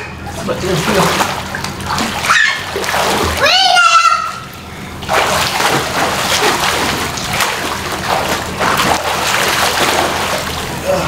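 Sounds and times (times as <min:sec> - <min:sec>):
pool water splashing: 0:00.2 - 0:11.0.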